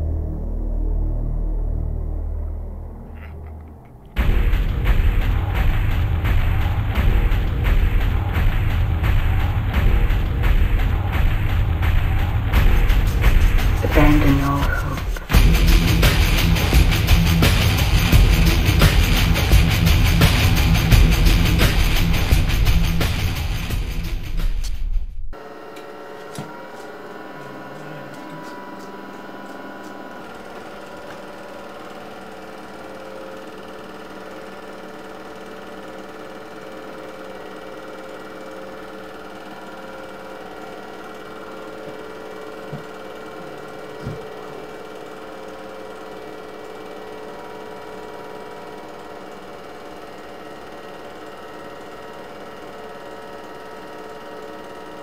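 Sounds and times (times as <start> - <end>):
film projector whirring: 3.7 - 24.7, 25.4 - 55.0.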